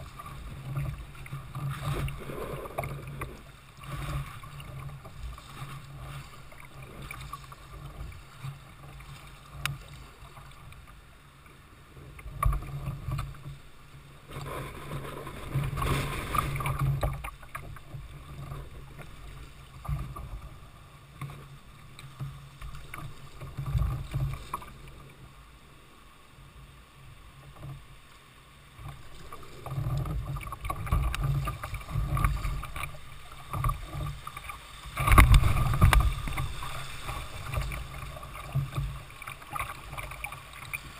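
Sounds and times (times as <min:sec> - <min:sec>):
water splashing and rushing: 0:00.0 - 0:40.9.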